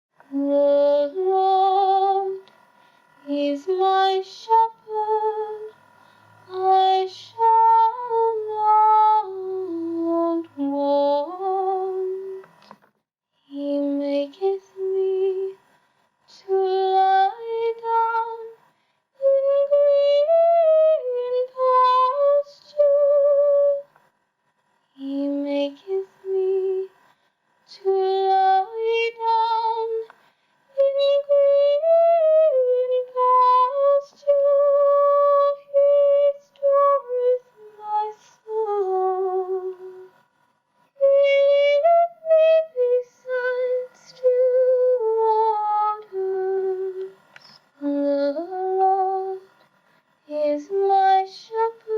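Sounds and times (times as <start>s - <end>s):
person singing a cappella: 0.2s - 2.6s, 3.2s - 5.8s, 6.4s - 12.8s, 13.4s - 15.7s, 16.3s - 18.6s, 19.2s - 24.0s, 25.0s - 27.1s, 27.7s - 40.2s, 40.9s - 51.9s.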